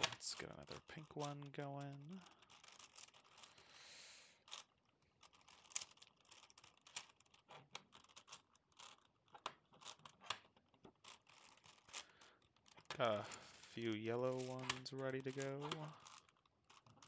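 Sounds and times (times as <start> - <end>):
plastic puzzle clicks and scrapes: 0.0 - 17.0.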